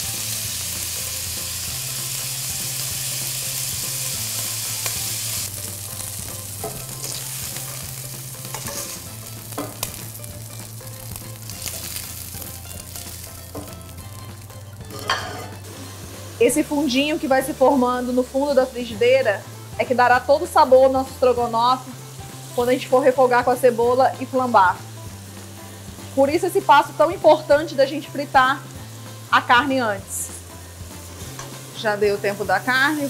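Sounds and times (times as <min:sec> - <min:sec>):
meat sizzling in frying pan: 0:00.0 - 0:33.0.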